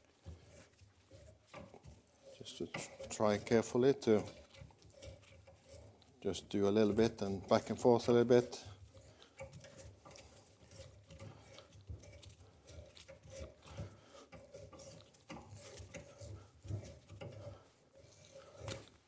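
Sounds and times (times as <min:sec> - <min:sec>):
metal-on-metal scraping: 0:00.0 - 0:19.0.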